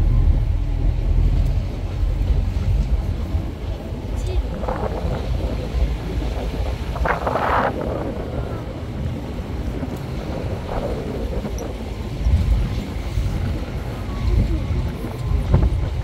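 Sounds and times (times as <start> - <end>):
vehicle engine and road rumble: 0.0 - 16.0
wind buffeting microphone: 0.0 - 16.0.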